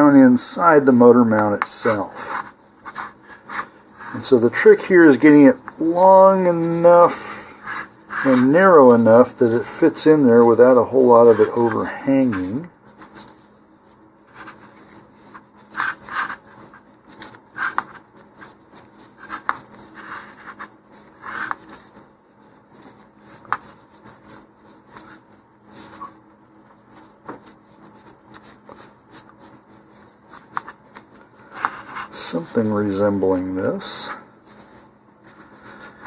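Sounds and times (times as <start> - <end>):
webbing rustling and scraping: 0.0 - 36.0.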